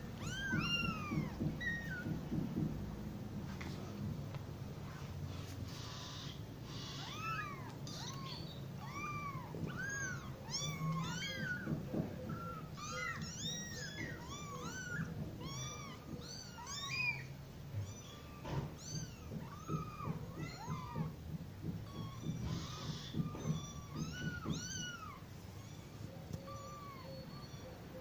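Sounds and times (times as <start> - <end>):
kittens mewing: 0.0 - 2.7, 5.4 - 28.0.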